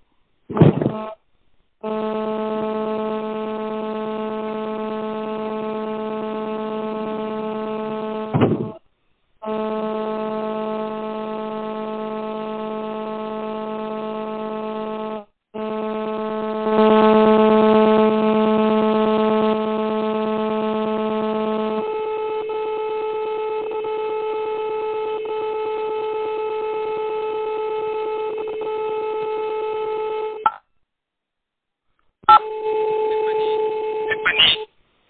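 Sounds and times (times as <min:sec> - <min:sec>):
buzzing electronic phone line tone: 0:01.8 - 0:08.8, 0:09.4 - 0:30.7, 0:32.3 - 0:34.7.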